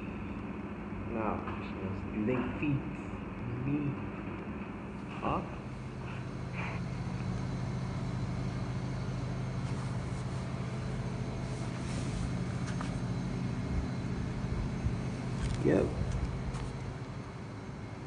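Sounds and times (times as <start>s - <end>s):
low mechanical hum with tones: 0.0s - 18.0s.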